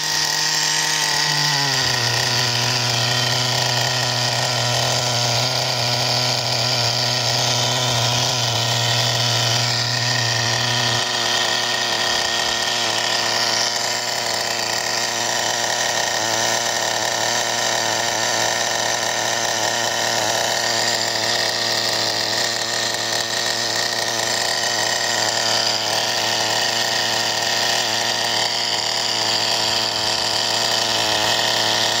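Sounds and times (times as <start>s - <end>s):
small two-stroke engine running: 0.0s - 32.0s.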